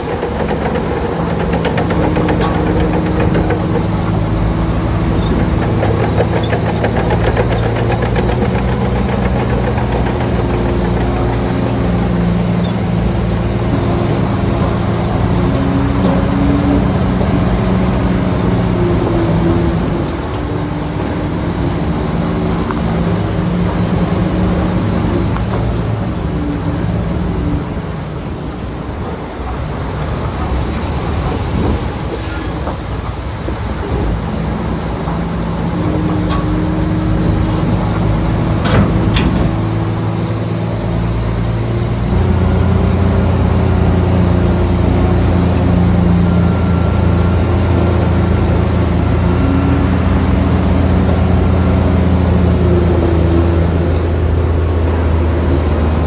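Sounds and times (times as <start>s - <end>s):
rattling clatter: 0.0s - 26.9s, 32.7s - 54.9s
diesel earthmoving machinery running: 0.0s - 56.0s.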